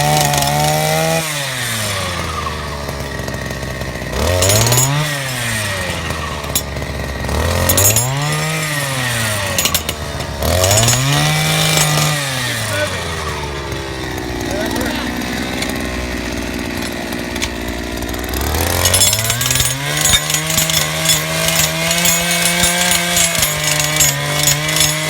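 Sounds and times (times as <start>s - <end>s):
jackhammer motor revving: 0.0s - 25.0s
rattling clatter: 2.9s - 25.0s.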